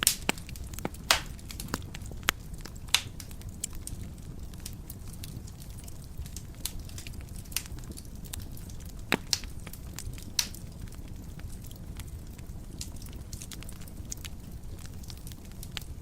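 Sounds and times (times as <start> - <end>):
fireplace flames rumbling: 0.0 - 16.0
wood fire crackling and popping: 0.0 - 16.0.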